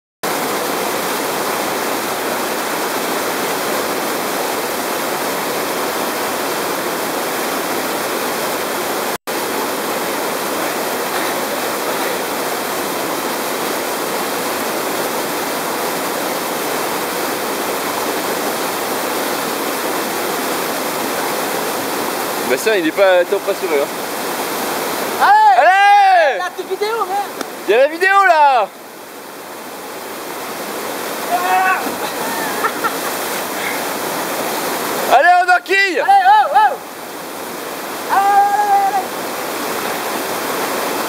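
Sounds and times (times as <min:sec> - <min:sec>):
waterfall rushing: 0:00.2 - 0:41.0.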